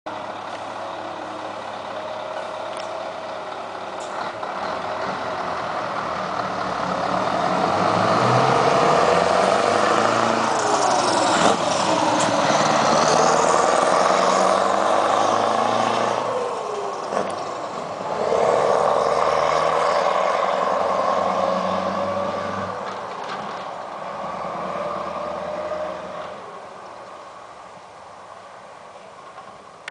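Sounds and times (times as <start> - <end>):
diesel truck engine accelerating: 0.1 - 27.5.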